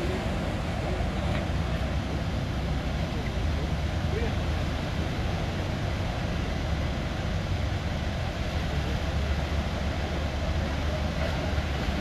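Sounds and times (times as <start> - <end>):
deep water rumble: 0.0 - 12.0.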